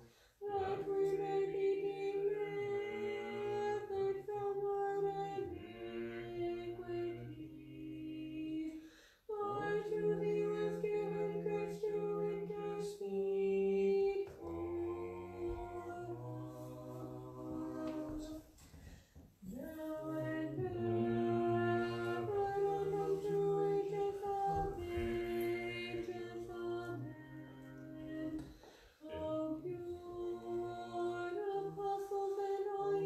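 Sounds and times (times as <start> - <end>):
voices singing chant in harmony: 0.0 - 18.7, 19.4 - 33.0.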